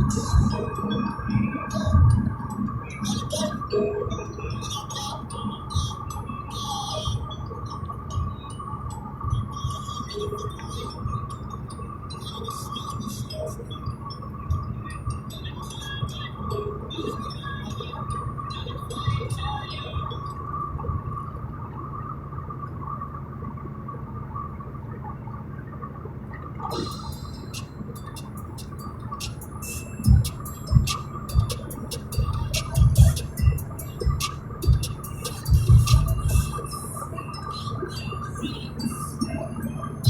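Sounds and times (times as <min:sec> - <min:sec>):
steady high tone: 0:00.0 - 0:20.3, 0:26.7 - 0:40.0
steady high hum: 0:00.0 - 0:40.0
vehicle road noise rumble: 0:00.0 - 0:40.0.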